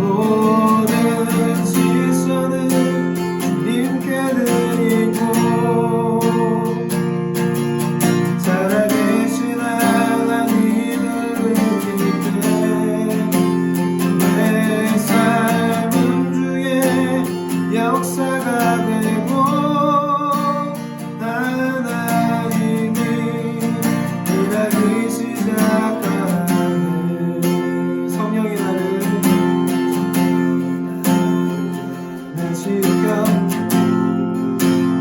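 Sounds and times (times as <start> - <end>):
acoustic guitar strumming: 0.0 - 35.0
person singing slow worship song: 0.0 - 35.0.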